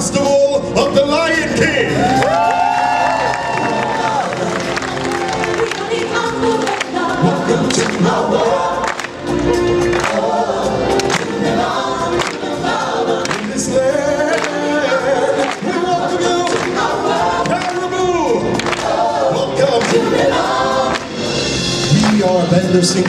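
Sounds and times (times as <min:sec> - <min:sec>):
group of singers singing: 0:03.2 - 0:23.0.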